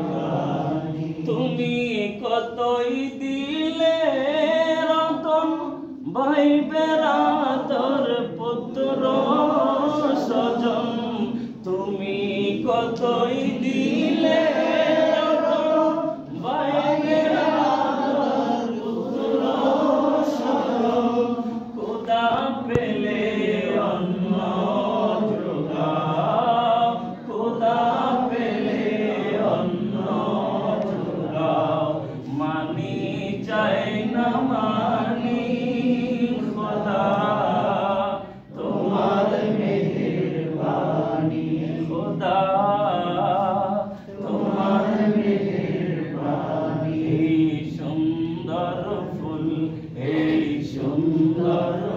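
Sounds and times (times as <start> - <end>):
men singing devotional song: 0.0 - 51.9.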